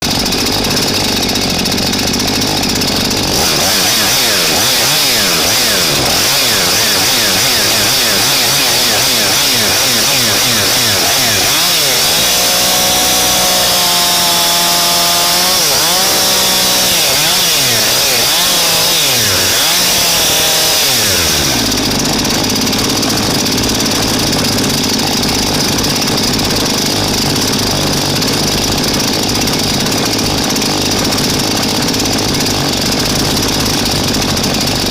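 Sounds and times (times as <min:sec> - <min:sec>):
chainsaw engine idling and revving: 0:00.0 - 0:34.9.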